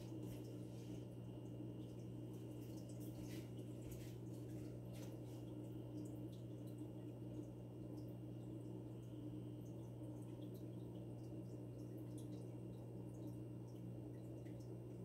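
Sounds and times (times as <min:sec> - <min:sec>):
aquarium filter humming: 0:00.0 - 0:15.0
water dripping and trickling: 0:00.0 - 0:15.0.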